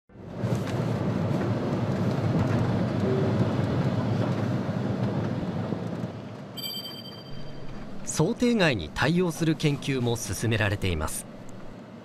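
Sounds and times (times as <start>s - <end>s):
car road and engine noise: 0.1s - 6.6s, 7.2s - 12.0s.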